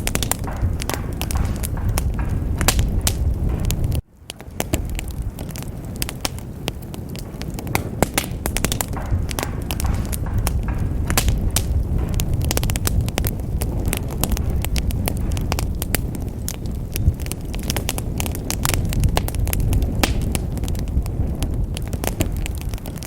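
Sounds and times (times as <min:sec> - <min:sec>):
fire crackling and popping: 0:00.0 - 0:23.0
fire rumbling: 0:00.0 - 0:23.0.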